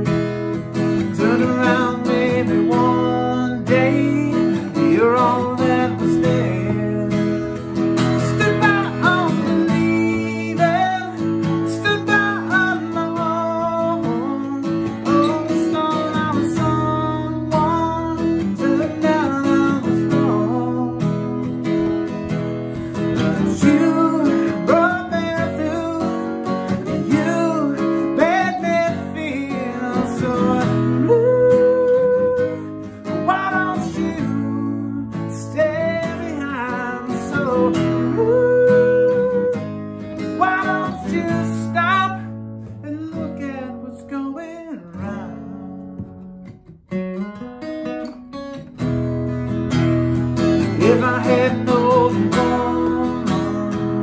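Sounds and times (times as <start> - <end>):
man singing: 0.0 - 46.2, 50.4 - 54.0
strummed acoustic guitar: 0.0 - 54.0.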